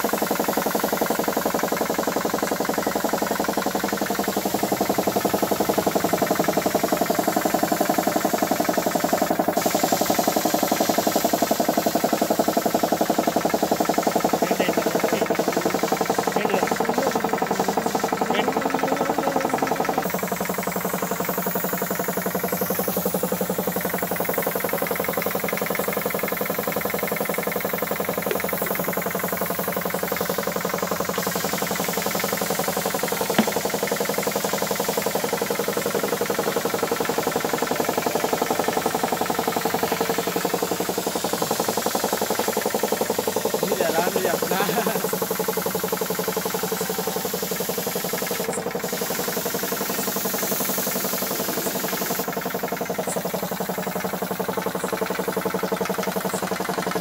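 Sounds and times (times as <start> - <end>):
piston air compressor running: 0.0 - 57.0.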